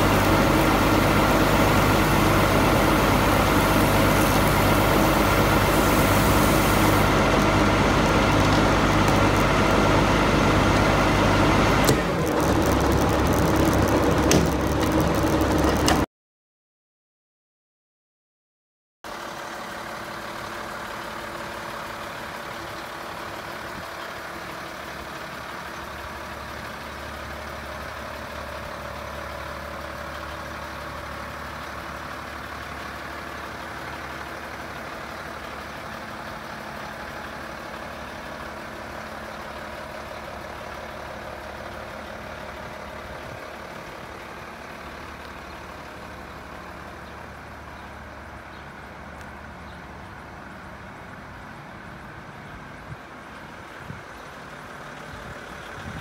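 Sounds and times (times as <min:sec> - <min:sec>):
diesel engine idling: 0:00.0 - 0:16.1, 0:19.1 - 0:56.0.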